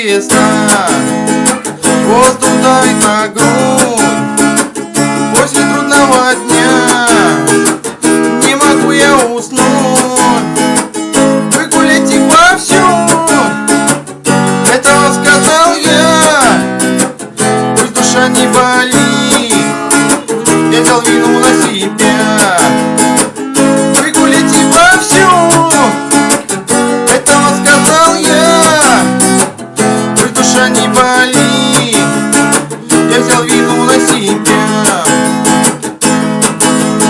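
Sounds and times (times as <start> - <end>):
strummed acoustic guitar: 0.0 - 37.0.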